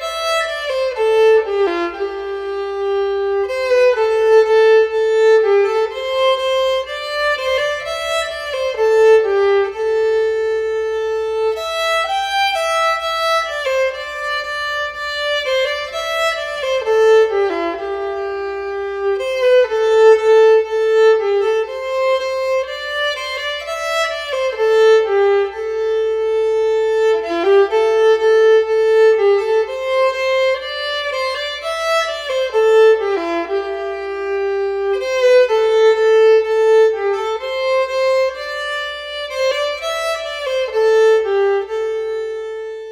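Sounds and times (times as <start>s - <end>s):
violin playing flowing melody: 0.0s - 42.9s.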